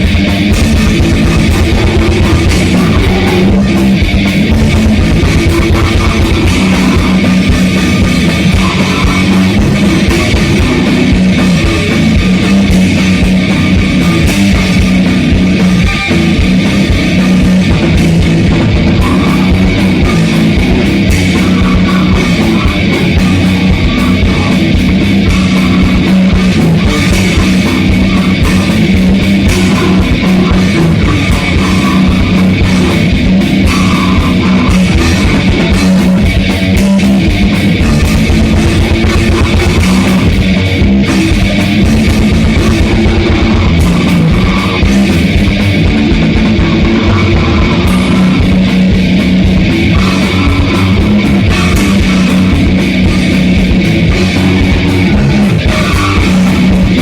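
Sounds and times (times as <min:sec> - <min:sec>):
distorted electric guitars: 0:00.0 - 0:57.0
rapid drum kit hits: 0:00.0 - 0:57.0.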